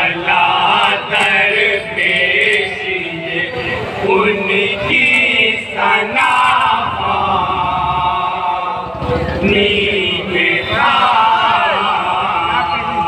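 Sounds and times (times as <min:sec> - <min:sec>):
men singing in chorus: 0:00.0 - 0:13.0.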